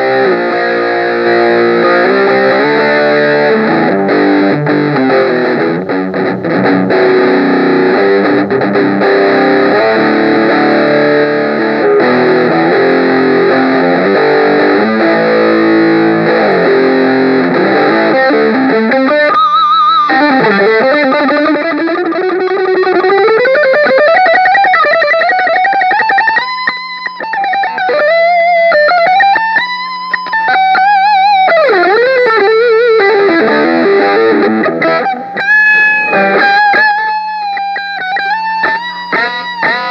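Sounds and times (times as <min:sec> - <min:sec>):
electric guitar: 0:00.0 - 0:39.9.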